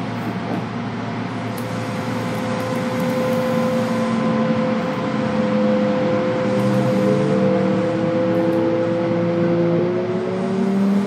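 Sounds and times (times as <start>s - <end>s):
rail and wheel noise: 0.0s - 11.0s
train motor hum: 0.0s - 11.0s.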